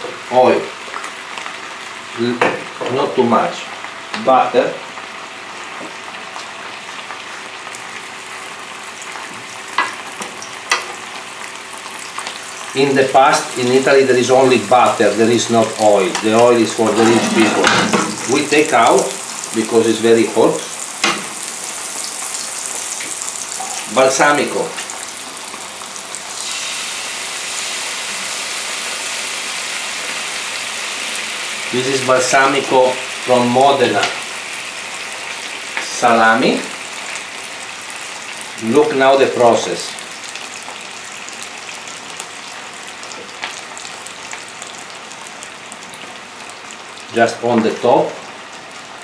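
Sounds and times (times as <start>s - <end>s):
food sizzling in hot oil: 3.7s - 47.2s.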